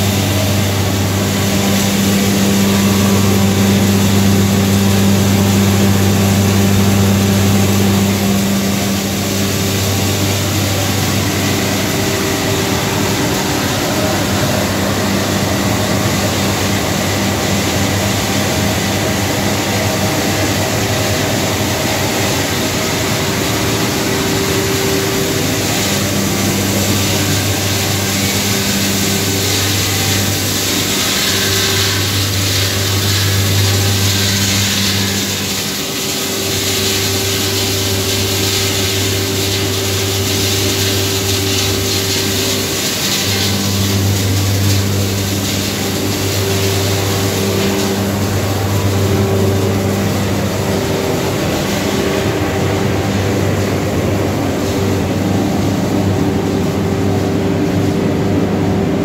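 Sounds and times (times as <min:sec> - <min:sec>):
electric motor hum: 0:00.0 - 0:59.0.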